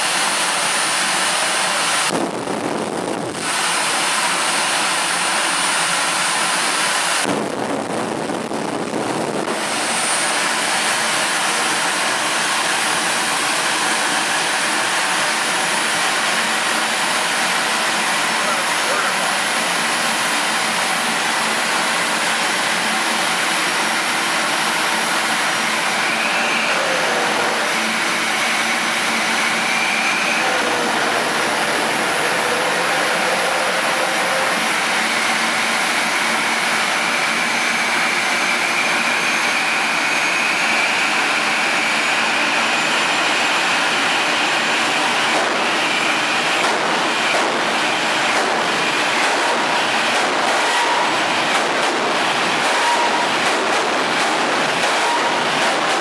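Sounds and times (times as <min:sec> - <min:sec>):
jet turbine engine idling: 0:00.0 - 0:56.0.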